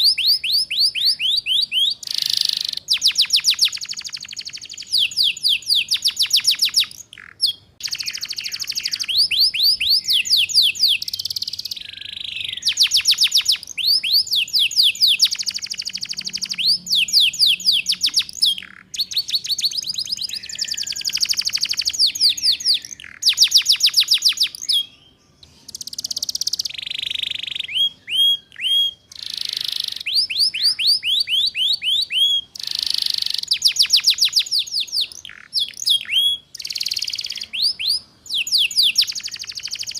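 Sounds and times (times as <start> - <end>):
canary hooked whistles: 0.0 - 24.9, 25.7 - 39.9
canary trilling: 0.0 - 39.9.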